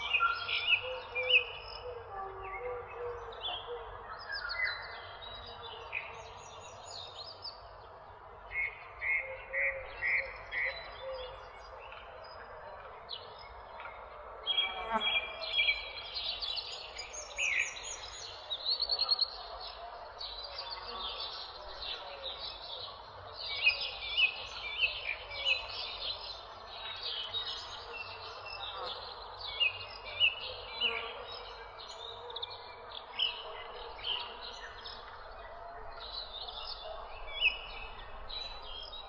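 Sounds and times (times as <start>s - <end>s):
songbirds chirping in chorus: 0.0s - 39.0s.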